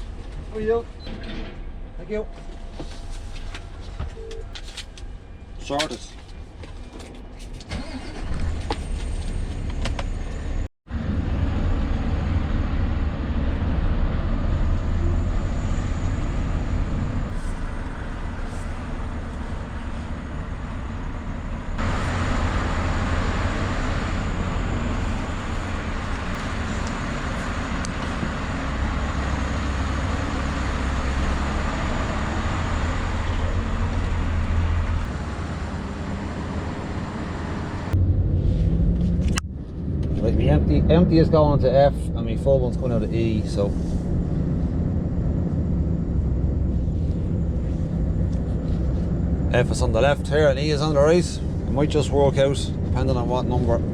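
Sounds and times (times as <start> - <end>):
road noise: 0.0 - 53.9
truck engine rumble: 0.0 - 53.9.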